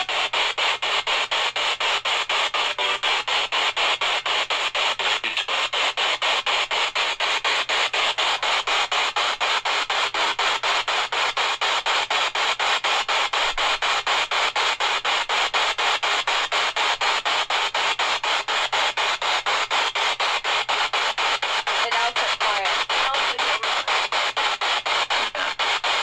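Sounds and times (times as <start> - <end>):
chopped radio static: 0.0 - 26.0.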